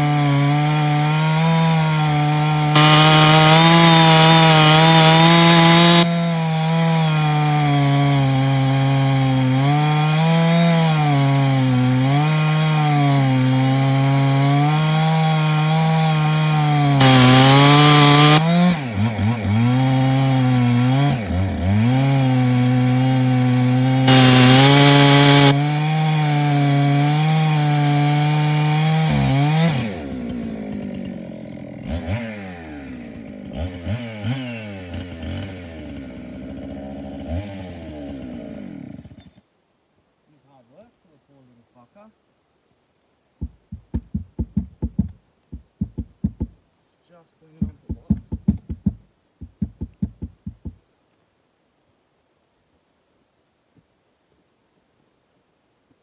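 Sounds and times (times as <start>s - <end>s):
chainsaw cutting log: 0.0s - 39.4s, 43.4s - 46.6s, 47.4s - 50.8s.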